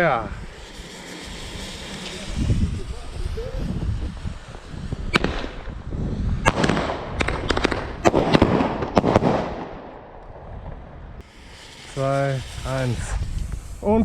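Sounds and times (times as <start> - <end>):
fireworks crackling: 0.0 - 14.0
fireworks bangs and cracks: 0.4 - 14.0.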